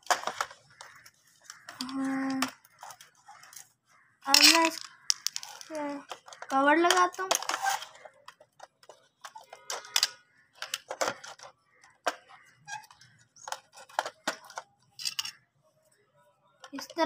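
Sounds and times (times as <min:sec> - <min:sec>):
plastic toy car clicks and knocks: 0:00.0 - 0:03.6, 0:04.3 - 0:15.4.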